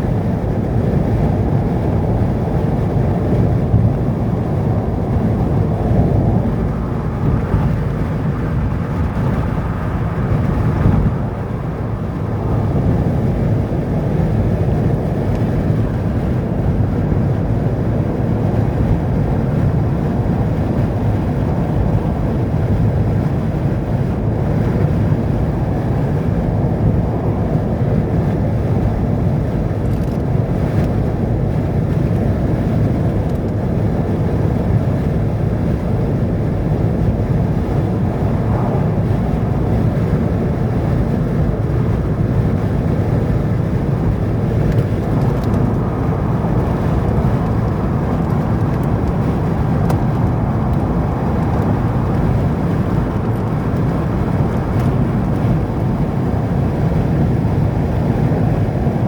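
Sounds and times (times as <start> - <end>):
vehicle rumbling on road: 0.0 - 59.0
wind noise on microphone: 0.0 - 59.0.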